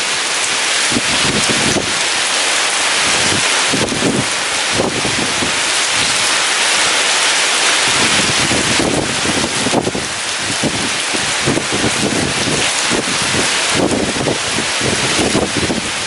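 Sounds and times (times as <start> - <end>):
heavy rain pouring: 0.0 - 16.0
strong wind gusting: 0.0 - 16.0.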